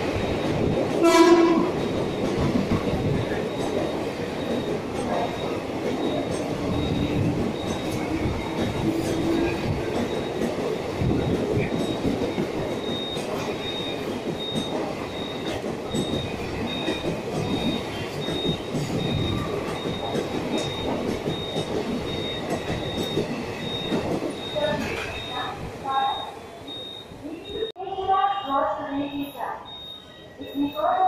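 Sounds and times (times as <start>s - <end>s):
train wheels rumbling on rail: 0.0s - 27.7s.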